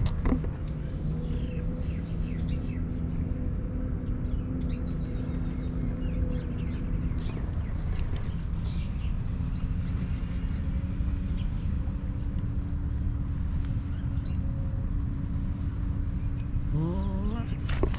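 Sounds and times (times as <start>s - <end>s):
low rumble with humming tone: 0.0s - 17.9s
small birds chirping: 0.3s - 17.9s.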